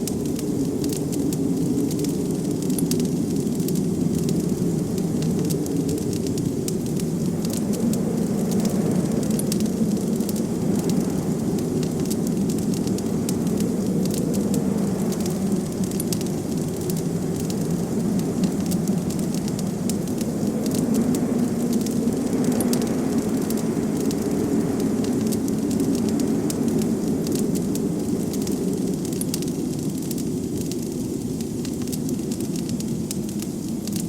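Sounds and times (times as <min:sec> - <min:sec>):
blizzard wind: 0:00.0 - 0:34.0
wood fire crackling and popping: 0:00.0 - 0:34.0.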